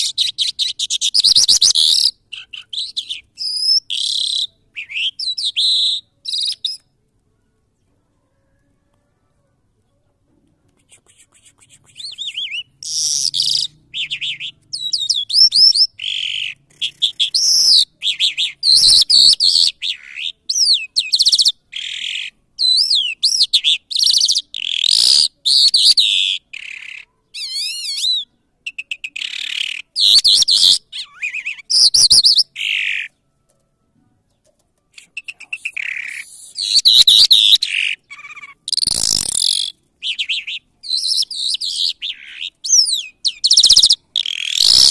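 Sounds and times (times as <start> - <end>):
lark singing: 0.0 - 6.9, 10.9 - 33.2, 34.9 - 44.9.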